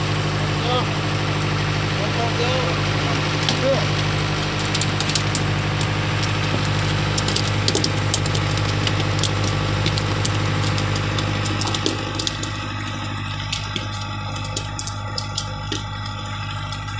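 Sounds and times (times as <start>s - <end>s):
boat engine idling: 0.0s - 16.9s.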